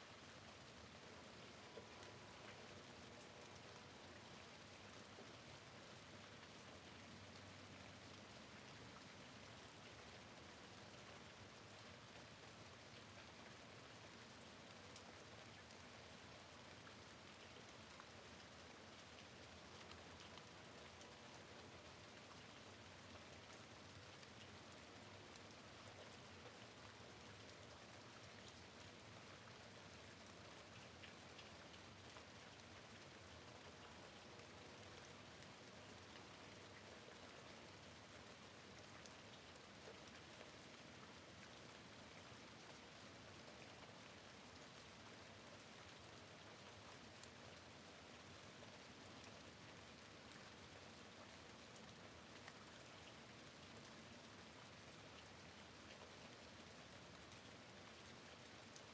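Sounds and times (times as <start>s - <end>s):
steady rain: 0.1s - 58.9s.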